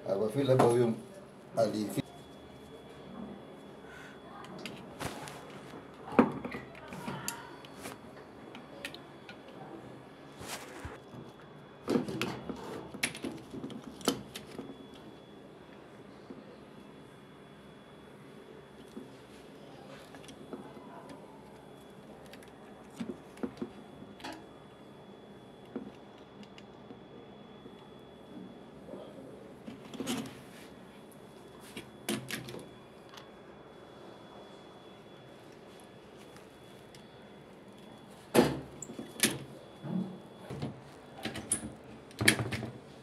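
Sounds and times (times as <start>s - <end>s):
faint background hum: 0.0s - 43.0s.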